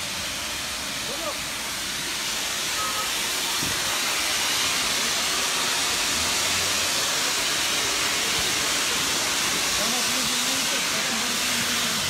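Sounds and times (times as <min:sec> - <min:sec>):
gas hissing from pipe: 0:00.0 - 0:12.0.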